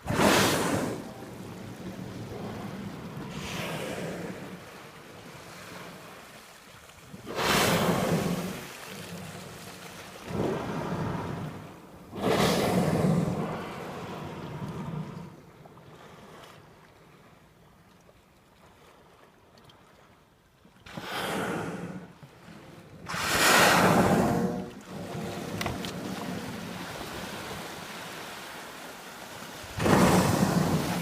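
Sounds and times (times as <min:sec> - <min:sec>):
whales blowing: 0:00.0 - 0:16.6, 0:20.8 - 0:31.0.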